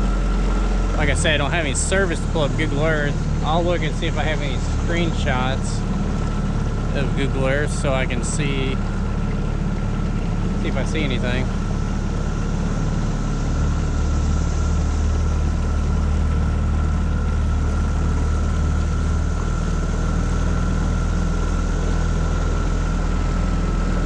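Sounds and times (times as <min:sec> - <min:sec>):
outboard motor droning: 0:00.0 - 0:24.0
thin steady whine: 0:00.0 - 0:24.0.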